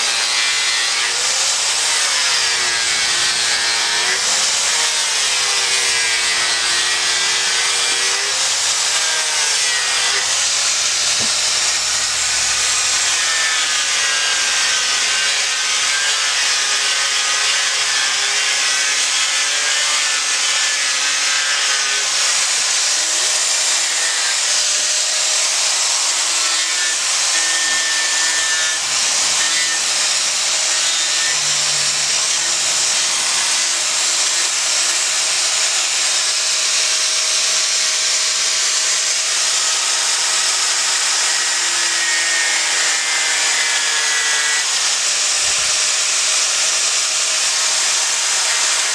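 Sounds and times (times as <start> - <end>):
angle grinder grinding wood: 0.0 - 48.9.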